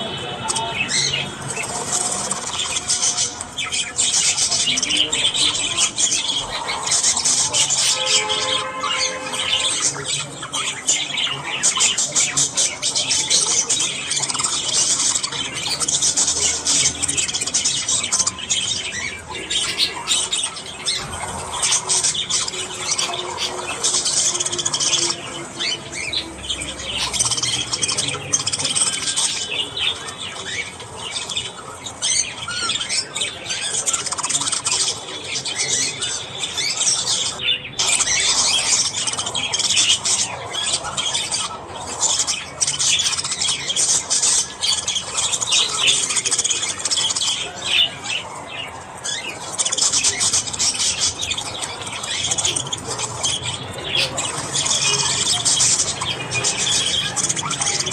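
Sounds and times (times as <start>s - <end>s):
budgerigars chattering: 0.0s - 57.9s.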